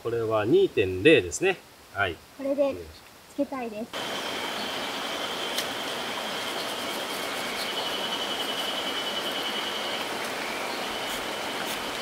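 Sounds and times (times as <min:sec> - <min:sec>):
stream running over stones: 0:01.9 - 0:12.0.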